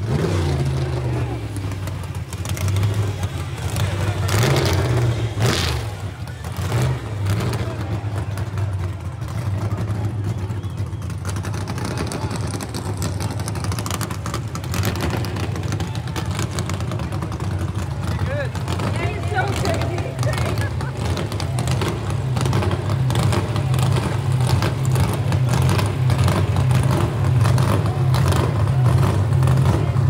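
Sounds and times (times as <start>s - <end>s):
car engine running at high revs: 0.0s - 30.0s.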